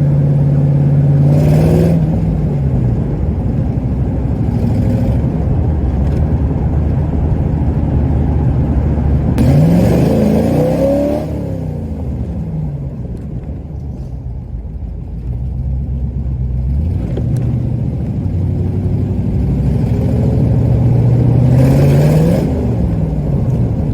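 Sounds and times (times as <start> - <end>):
car engine revving: 0.0 - 12.9, 14.8 - 23.9.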